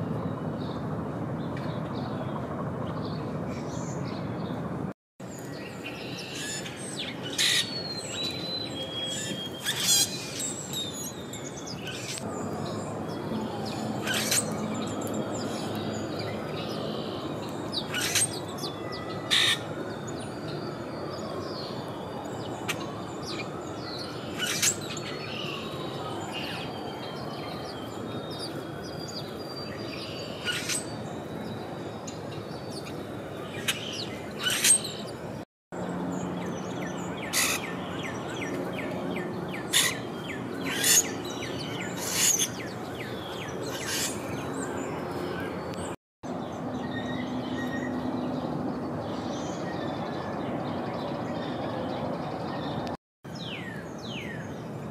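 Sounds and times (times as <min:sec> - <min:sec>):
songbirds chirping: 0:00.0 - 0:54.9
steady background noise: 0:00.0 - 0:54.9.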